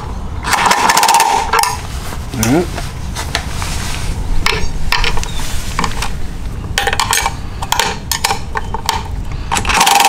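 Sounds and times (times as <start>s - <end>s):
steady low rumble: 0.0s - 9.6s.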